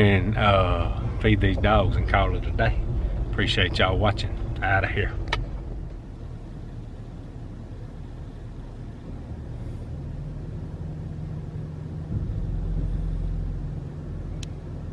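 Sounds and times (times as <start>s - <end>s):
vehicle engine humming: 0.0s - 14.9s.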